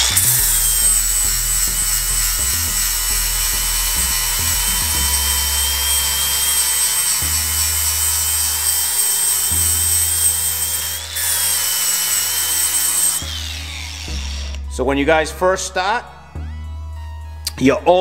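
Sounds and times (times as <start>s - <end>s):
angle grinder grinding steel: 0.0s - 14.8s
background music with bass: 0.0s - 18.0s.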